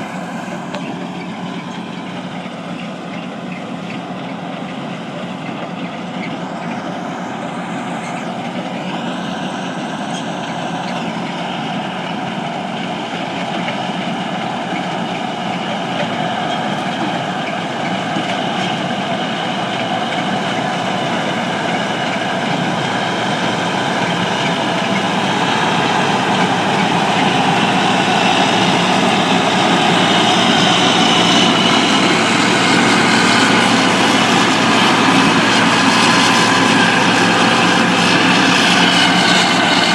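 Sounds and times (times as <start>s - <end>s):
harvest machinery drone: 0.0s - 39.9s.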